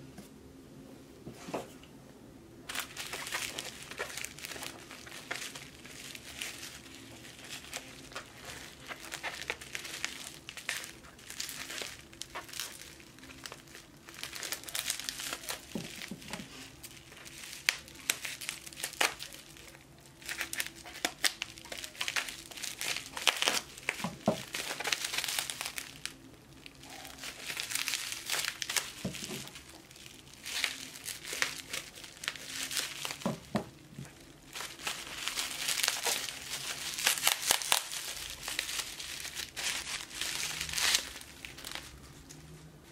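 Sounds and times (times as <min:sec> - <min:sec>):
bubble wrap crinkling: 0:02.6 - 0:42.9
scissors cutting bubble wrap: 0:02.7 - 0:42.0.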